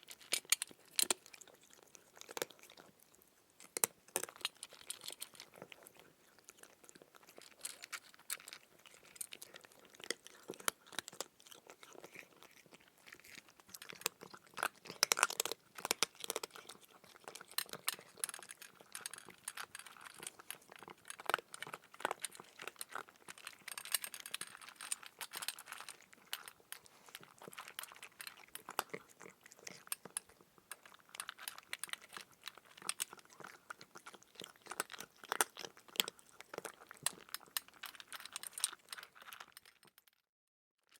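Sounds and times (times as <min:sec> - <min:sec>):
crunchy chewing: 0:00.0 - 0:40.0.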